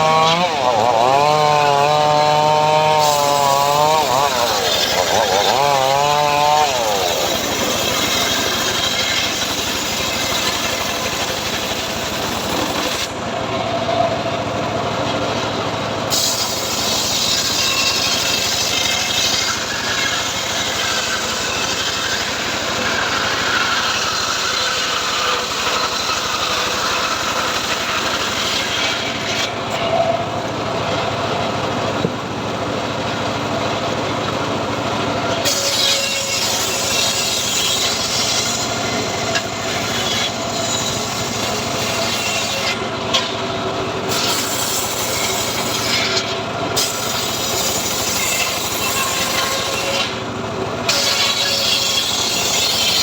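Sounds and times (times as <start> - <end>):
log saw engine running: 0.0 - 53.0.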